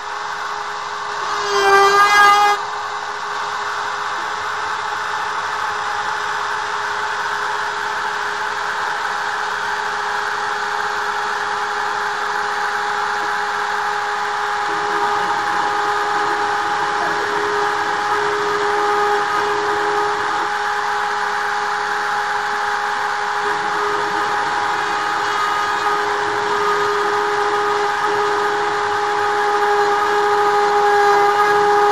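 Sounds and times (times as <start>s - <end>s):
cutter hissing through board: 0.0s - 31.9s
router spindle whine: 0.0s - 31.9s.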